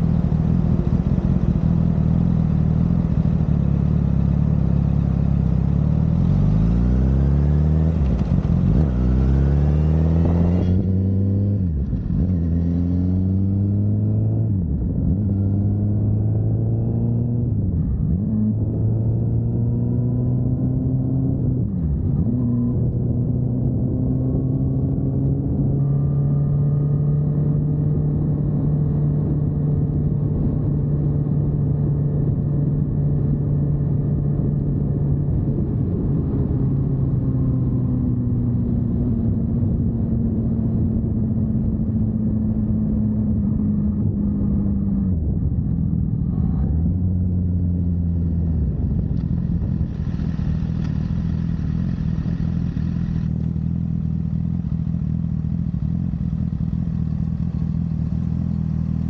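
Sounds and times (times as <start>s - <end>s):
motorcycle engine running: 0.0s - 16.5s, 17.4s - 59.0s
wind and road noise: 0.0s - 59.0s.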